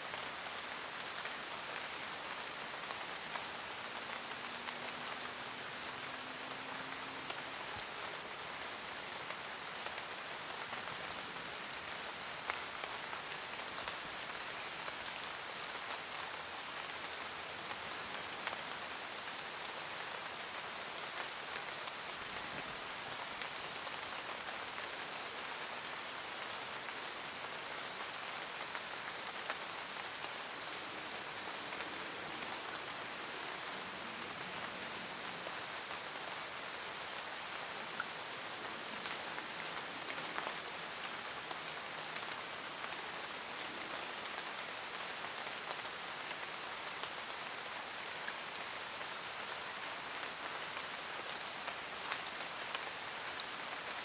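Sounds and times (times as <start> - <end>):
rain falling in a forest: 0.0 - 54.0.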